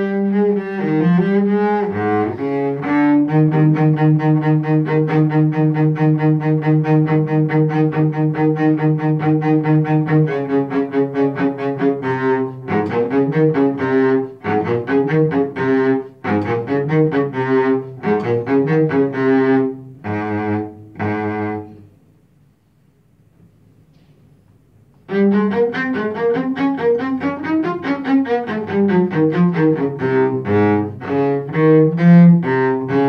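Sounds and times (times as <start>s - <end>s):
solo cello bowed: 0.0s - 22.0s, 25.0s - 33.0s.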